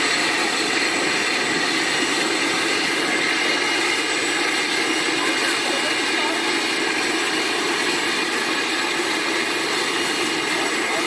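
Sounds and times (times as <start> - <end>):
high engine whine: 0.0 - 11.0
jet engines running: 0.0 - 11.0.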